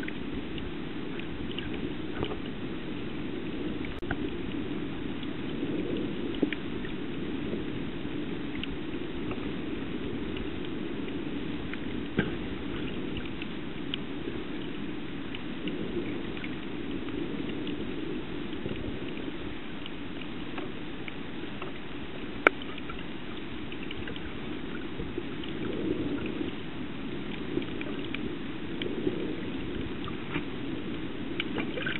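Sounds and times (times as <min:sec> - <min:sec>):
faint underwater clicks and crackles: 0:00.0 - 0:31.9
muffled underwater water rush: 0:00.0 - 0:31.9.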